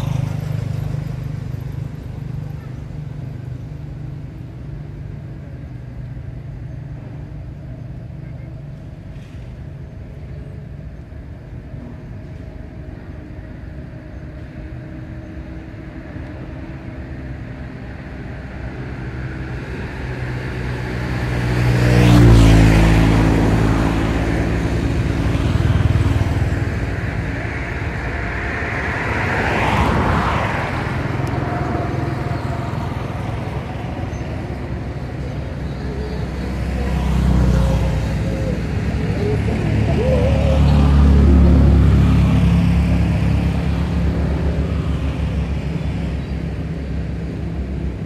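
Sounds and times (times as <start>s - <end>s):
steady engine hum: 0.0s - 48.0s
vehicles passing: 0.0s - 48.0s.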